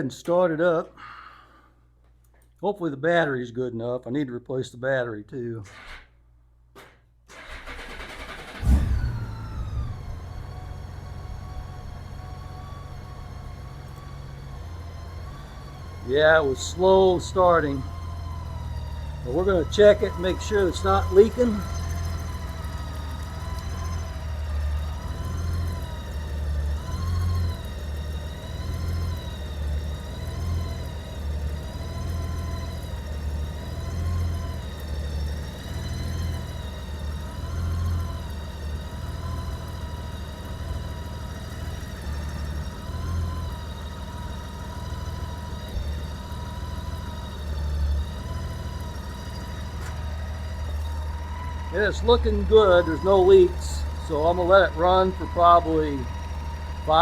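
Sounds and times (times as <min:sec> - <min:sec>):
motorcycle engine idling: 0:07.6 - 0:57.0.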